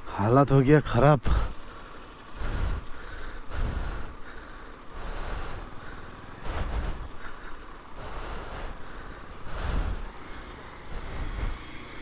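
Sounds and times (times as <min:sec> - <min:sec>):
motorcycle wind and road noise: 0:00.0 - 0:12.0.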